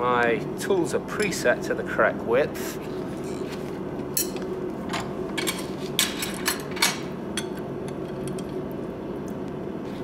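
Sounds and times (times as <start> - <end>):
gas forge humming: 0.0 - 10.0.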